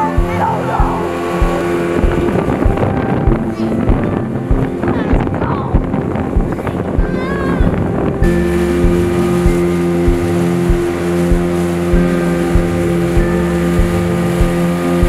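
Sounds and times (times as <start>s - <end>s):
sustained synth chords: 0.0s - 15.0s
wind and boat noise: 0.0s - 15.0s
kick drum beat: 0.2s - 14.6s.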